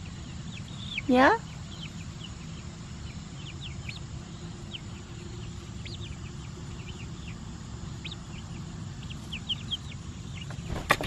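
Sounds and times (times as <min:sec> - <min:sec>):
chicks peeping: 0:00.0 - 0:11.0
low steady background noise: 0:00.0 - 0:11.0.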